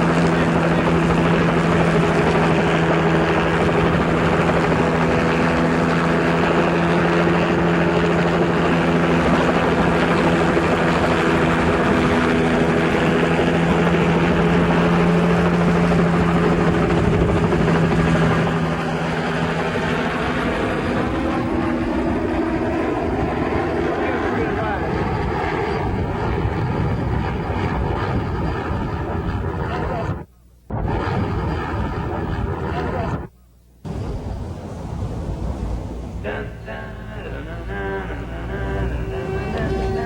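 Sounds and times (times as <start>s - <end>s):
helicopter drone: 0.0s - 40.0s.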